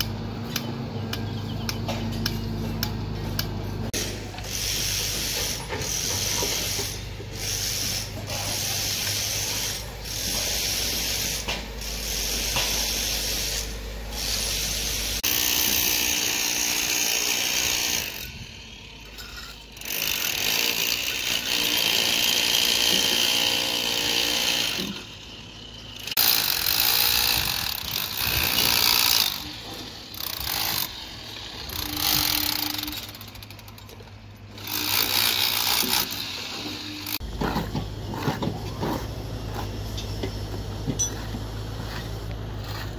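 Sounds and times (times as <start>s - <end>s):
power tool on steel: 0.0s - 37.2s.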